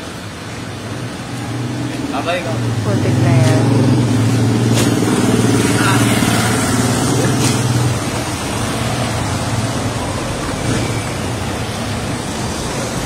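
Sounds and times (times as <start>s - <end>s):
rushing street noise: 0.0s - 13.0s.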